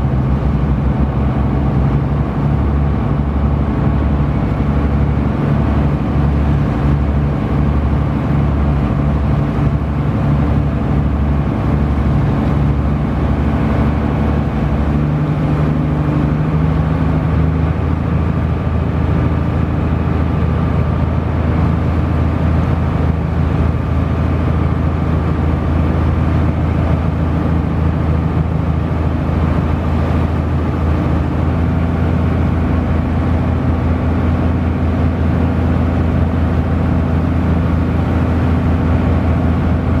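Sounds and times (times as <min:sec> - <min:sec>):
ferry engine humming: 0:00.0 - 0:40.0.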